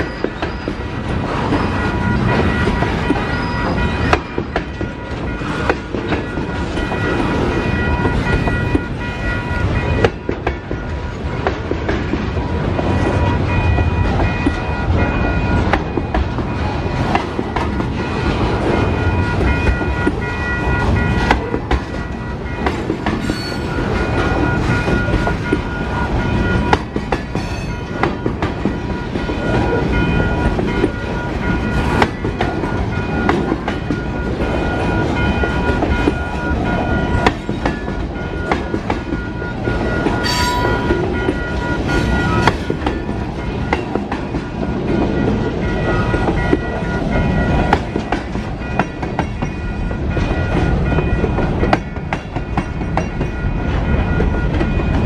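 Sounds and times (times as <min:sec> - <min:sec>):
high ringing tone: 0:00.0 - 0:11.7, 0:13.1 - 0:16.7, 0:17.8 - 0:55.0
freight train rumbling past: 0:00.0 - 0:55.0
wheels clacking over rail joints: 0:00.0 - 0:55.0.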